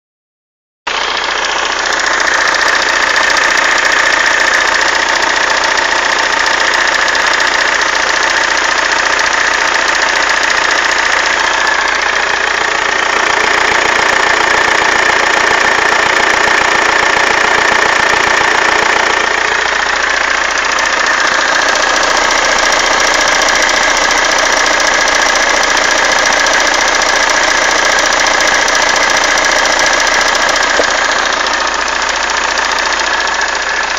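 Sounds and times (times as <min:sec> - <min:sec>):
car engine running: 0:00.9 - 0:33.9.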